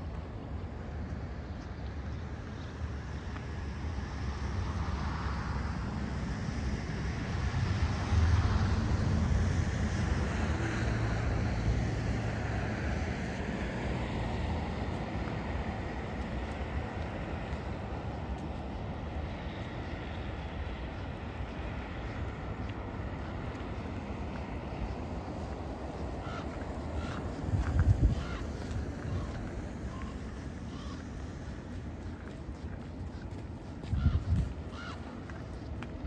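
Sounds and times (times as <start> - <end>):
motor vehicle passing by: 3.6 - 36.0.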